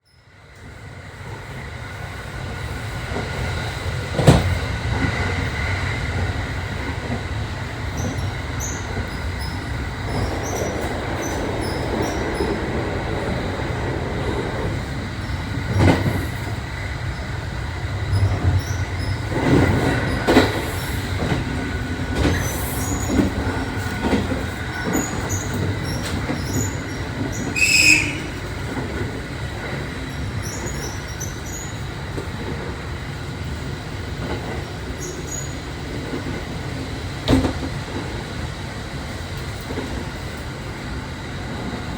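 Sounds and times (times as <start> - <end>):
electric train rumbling: 0.0 - 41.9
train knocks and rattles: 0.4 - 41.9.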